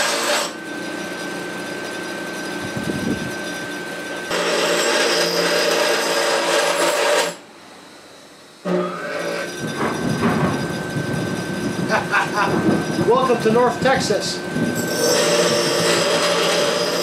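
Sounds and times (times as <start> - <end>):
bench grinder grinding steel: 0.0 - 7.4, 8.6 - 17.0.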